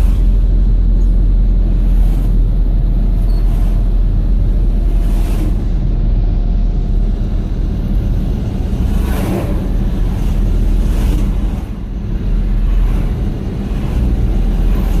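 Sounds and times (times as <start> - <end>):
street traffic rumbling: 0.0 - 15.0
vehicles passing: 0.0 - 15.0.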